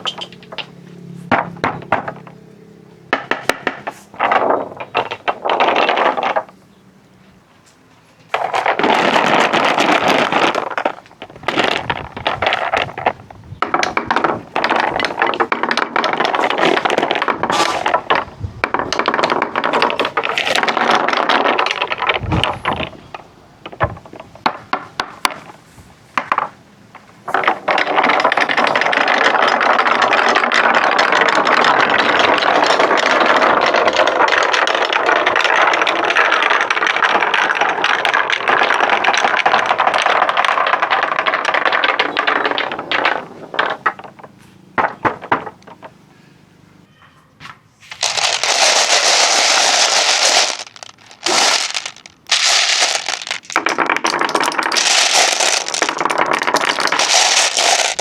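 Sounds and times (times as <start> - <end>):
marbles rattling on wooden tracks: 0.0 - 2.4, 3.1 - 6.6, 8.3 - 46.0, 47.9 - 58.0.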